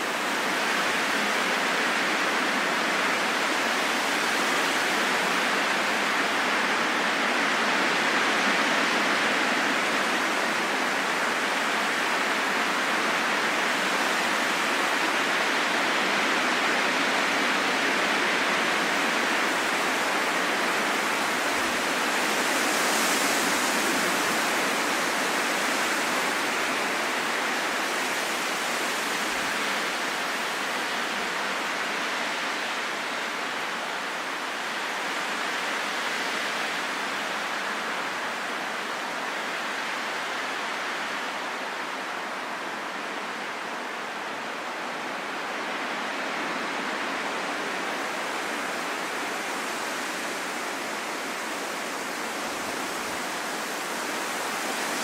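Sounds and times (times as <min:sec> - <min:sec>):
rushing wind: 0:00.0 - 0:55.0.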